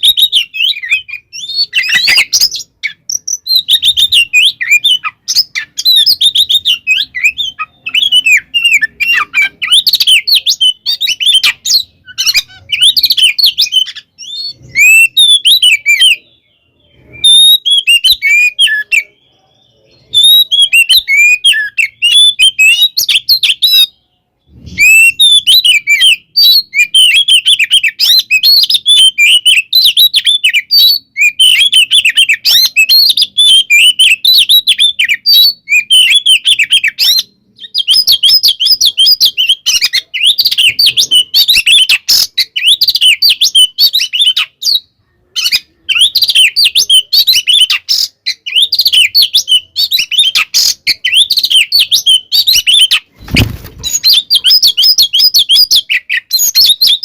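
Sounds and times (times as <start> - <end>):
bird singing chirps and whistles: 0.0 - 57.0.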